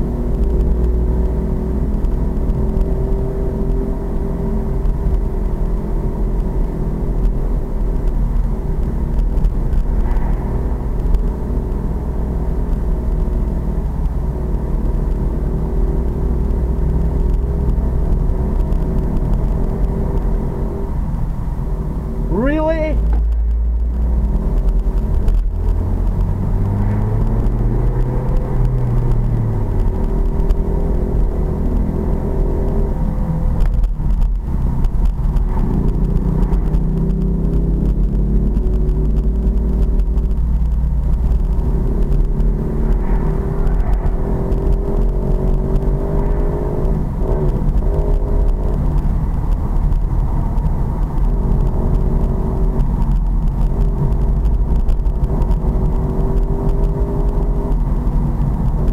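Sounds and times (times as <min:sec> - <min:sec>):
steady low rumble: 0:00.0 - 0:58.9.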